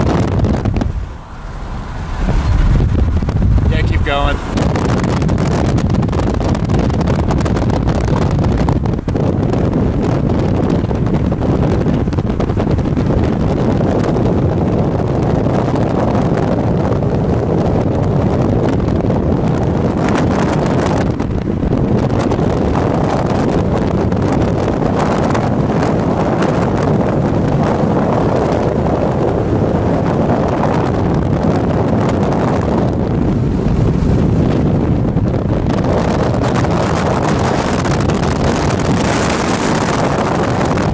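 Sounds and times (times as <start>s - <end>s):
road and wind noise: 0.0s - 40.9s
wind buffeting microphone: 0.0s - 40.9s.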